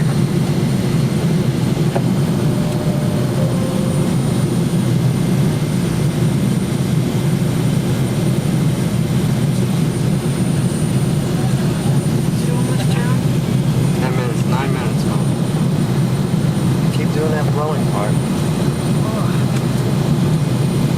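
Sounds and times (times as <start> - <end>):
jet engine roar in cabin: 0.0 - 20.9.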